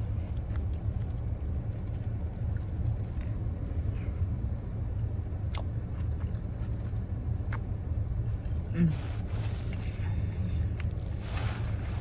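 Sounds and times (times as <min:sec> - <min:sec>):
low rumble in car cabin: 0:00.0 - 0:12.0.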